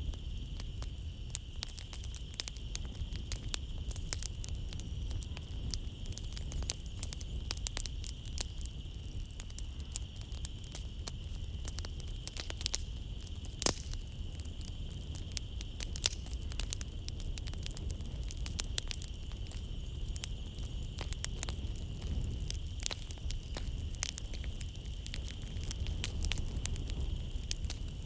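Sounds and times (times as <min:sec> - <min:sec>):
night insects trilling: 0:00.0 - 0:28.0
wood fire crackling: 0:00.0 - 0:28.0.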